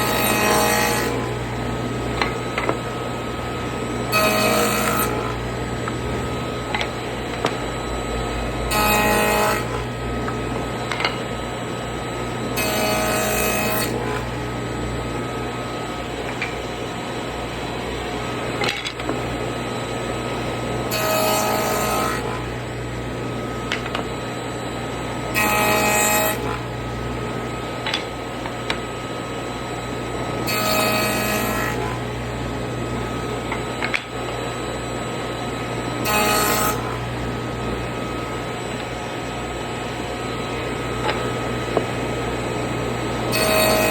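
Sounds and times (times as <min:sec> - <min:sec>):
table saw cutting wood: 0:00.0 - 0:43.9.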